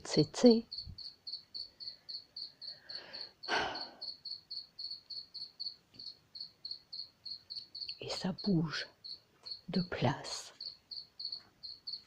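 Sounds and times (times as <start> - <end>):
insect chirping: 0.1 - 12.0.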